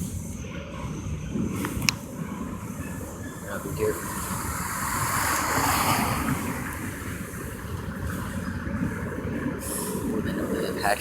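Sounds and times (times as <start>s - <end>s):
freight train rumbling on rails: 0.0s - 11.0s
heavy rain hiss: 0.0s - 11.0s.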